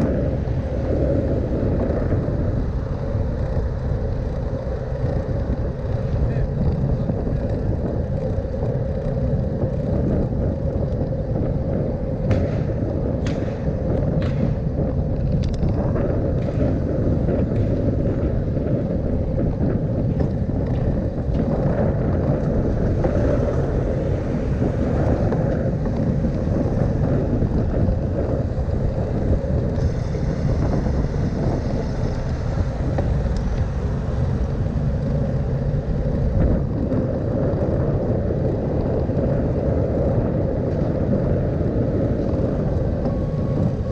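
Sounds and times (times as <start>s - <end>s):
wind and road rumble: 0.0s - 43.9s
wind buffeting microphone: 0.0s - 43.9s.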